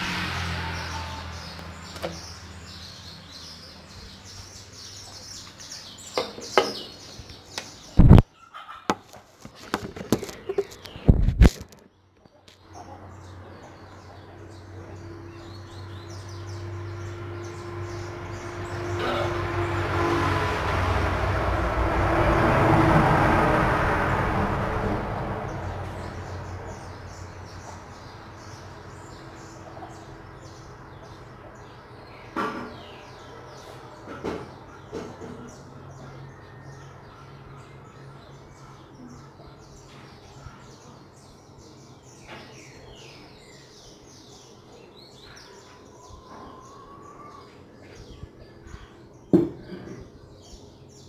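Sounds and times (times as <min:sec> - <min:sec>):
small birds chirping: 0:00.0 - 0:19.9, 0:25.4 - 0:51.0.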